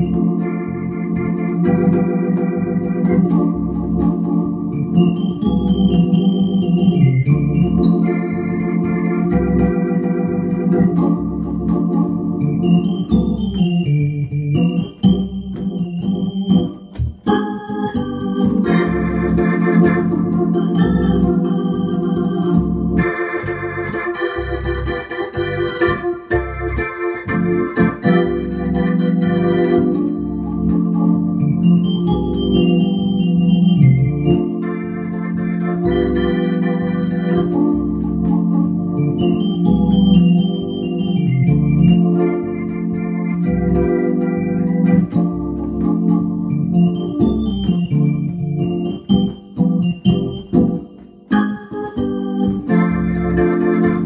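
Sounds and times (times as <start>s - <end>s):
organ playing chords and melody: 0.0s - 54.0s.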